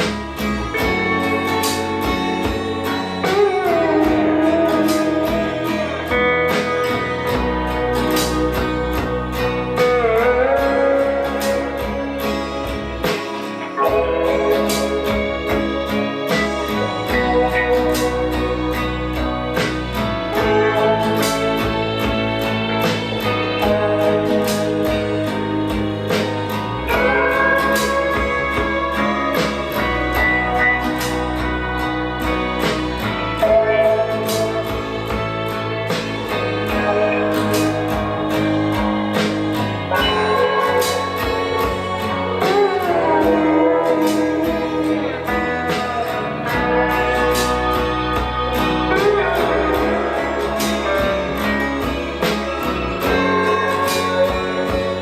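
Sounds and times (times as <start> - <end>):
guitar-led music with steady beat: 0.0 - 55.0
sliding guitar note: 0.0 - 55.0.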